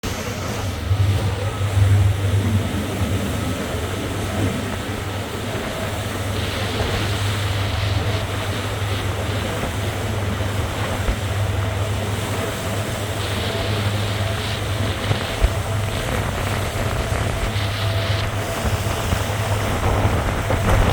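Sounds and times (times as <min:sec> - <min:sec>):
boat engine droning: 0:00.0 - 0:20.9
water rushing: 0:00.0 - 0:20.9
wind noise: 0:00.0 - 0:20.9.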